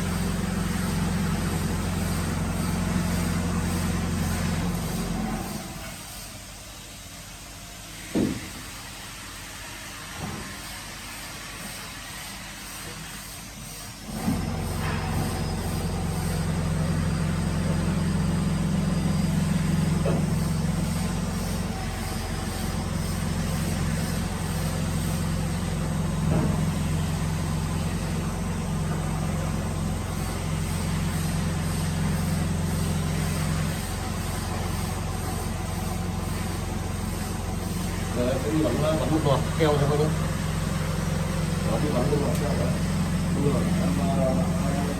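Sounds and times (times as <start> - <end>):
electric motor humming: 0.0 - 5.9, 14.1 - 44.9.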